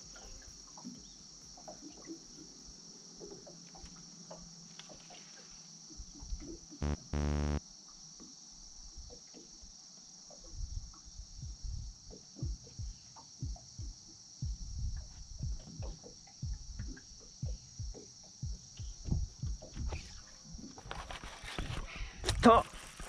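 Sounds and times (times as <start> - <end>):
insect chorus: 0.0 - 6.8, 7.6 - 23.0.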